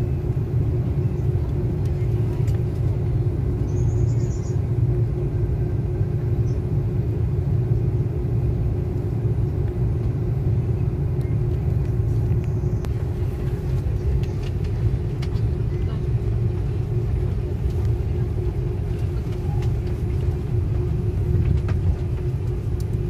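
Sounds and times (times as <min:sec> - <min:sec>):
airliner engine rumble: 0:00.0 - 0:23.0.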